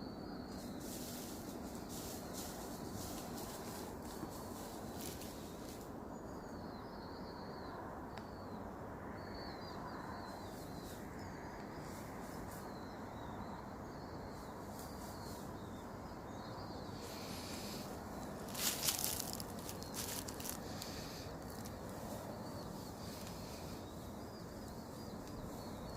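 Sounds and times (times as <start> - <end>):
small birds chirping: 0.0 - 8.6, 9.2 - 25.9.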